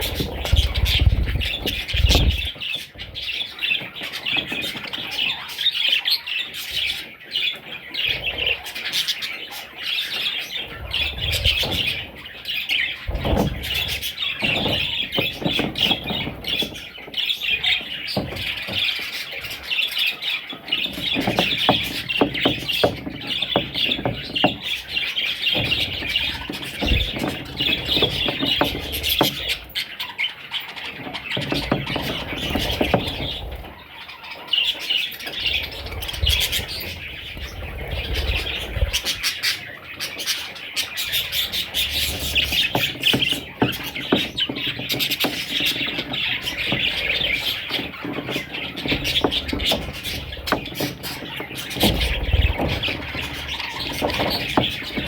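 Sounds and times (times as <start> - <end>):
budgerigars chirping and chattering: 0.0 - 55.0.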